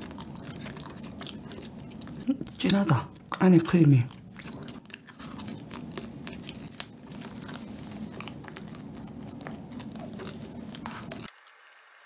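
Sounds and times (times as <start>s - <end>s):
chewing with mouth clicks: 0.0s - 11.3s.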